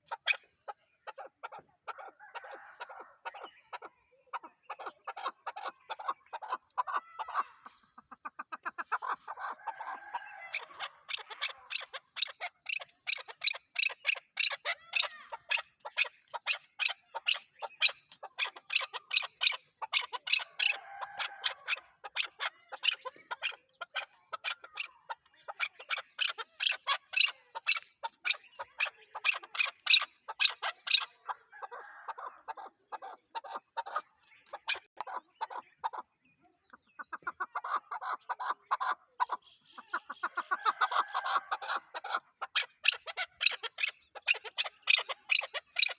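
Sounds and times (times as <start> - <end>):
partridge chuk calls: 0.0 - 45.9.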